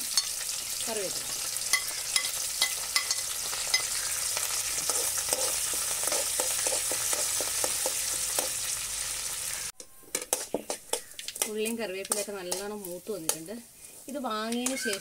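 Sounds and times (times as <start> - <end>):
frying hiss in oil: 0.0 - 15.0
spoon stirring in a pan: 1.6 - 8.7, 9.8 - 15.0.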